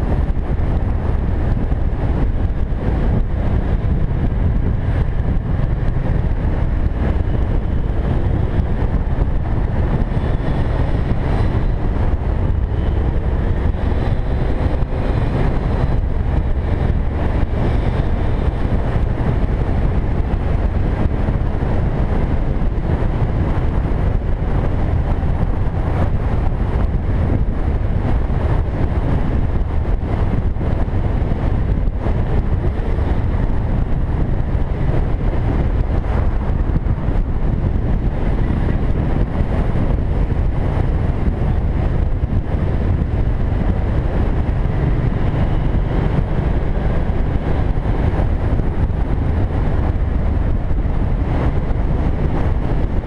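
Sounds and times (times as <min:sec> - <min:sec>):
motorcycle running at road speed: 0:00.0 - 0:53.0
wind rushing over microphone: 0:00.0 - 0:53.0.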